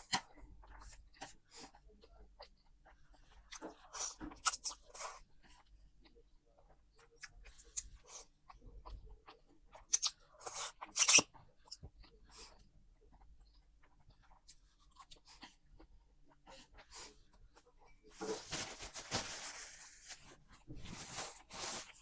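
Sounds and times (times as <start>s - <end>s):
chewing and mouth smacks: 0.0s - 17.7s.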